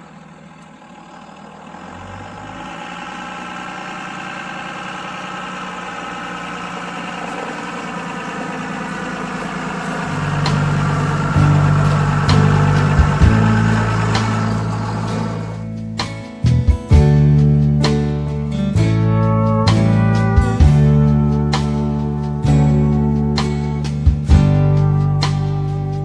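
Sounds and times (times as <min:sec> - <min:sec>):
engine idling: 0:00.0 - 0:26.0
heavy low rumble: 0:00.7 - 0:26.0.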